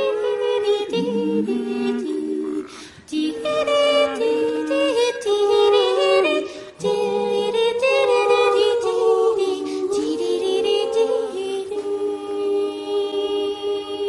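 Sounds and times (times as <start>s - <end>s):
voices singing in harmony: 0.0s - 14.0s.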